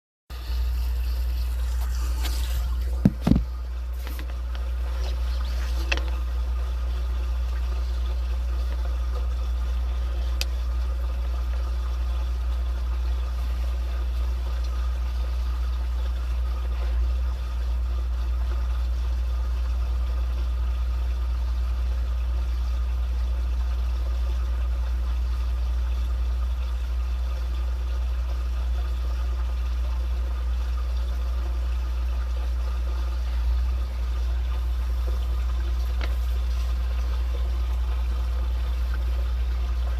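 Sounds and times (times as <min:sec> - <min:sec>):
water flowing through drain: 0:00.3 - 0:39.9.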